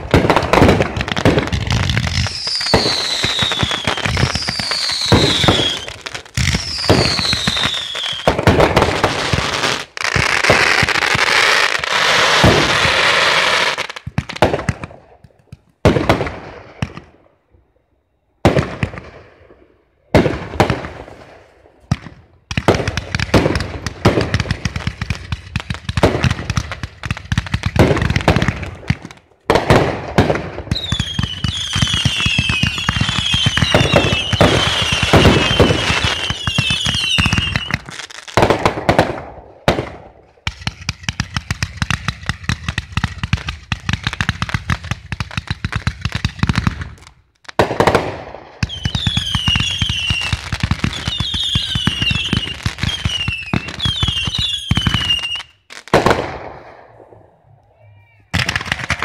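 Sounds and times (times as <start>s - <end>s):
firework crackling: 0.0s - 17.0s, 20.2s - 57.1s, 58.3s - 59.0s
falling whistling fireworks: 0.0s - 57.4s, 58.3s - 59.0s.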